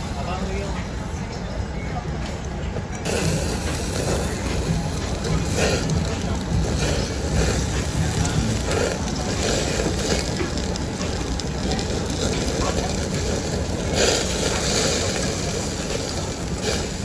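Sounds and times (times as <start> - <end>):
meat sizzling on grill: 3.0 - 17.0.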